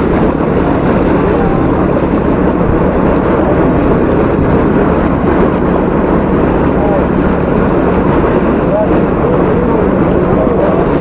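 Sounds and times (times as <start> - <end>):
crowd voices: 0.0 - 11.0
floodwater rushing: 0.0 - 11.0
low hum: 0.0 - 11.0.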